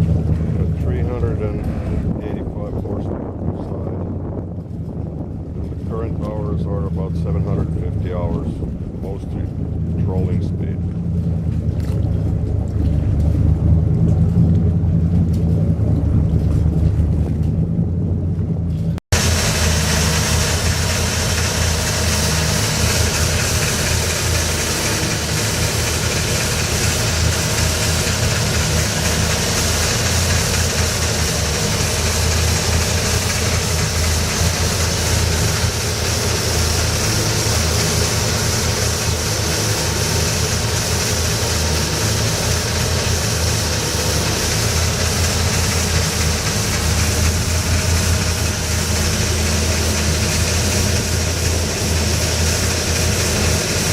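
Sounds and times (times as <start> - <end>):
boat engines idling: 0.0 - 53.9.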